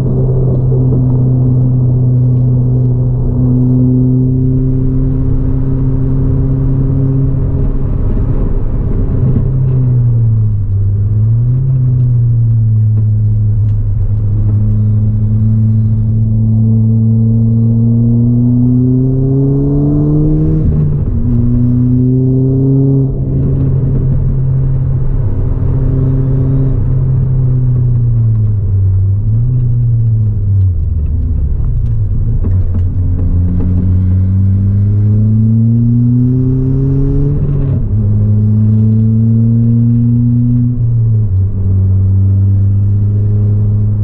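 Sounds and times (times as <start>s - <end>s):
car engine revving through gears: 0.0s - 44.0s.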